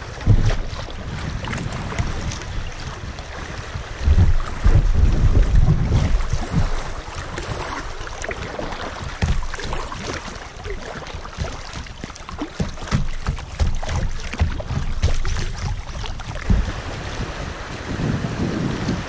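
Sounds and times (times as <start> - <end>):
water splashing against kayak hull: 0.0 - 19.0
wind rumble on microphone: 0.0 - 19.0.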